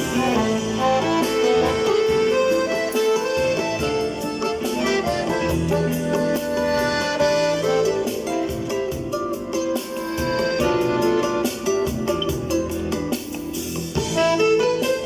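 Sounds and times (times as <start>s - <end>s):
accordion melody: 0.0s - 15.0s
keyboard backing accompaniment: 0.0s - 15.0s.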